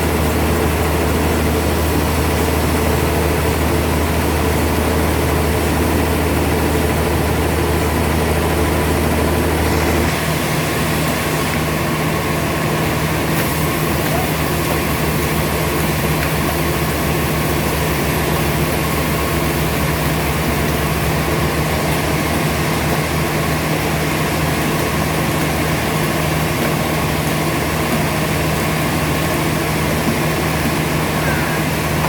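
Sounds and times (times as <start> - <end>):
sawmill motor humming: 0.0 - 32.0.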